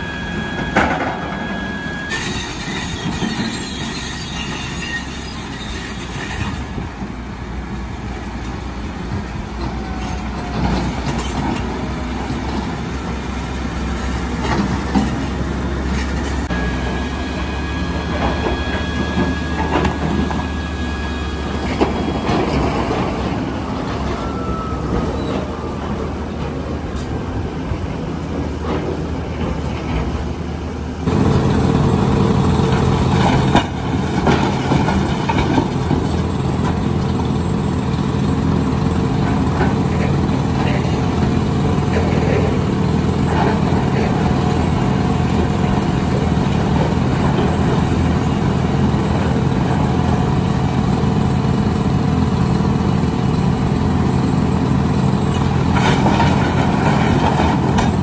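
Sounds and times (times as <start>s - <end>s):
heavy diesel engine running: 0.0s - 4.6s, 6.1s - 58.0s.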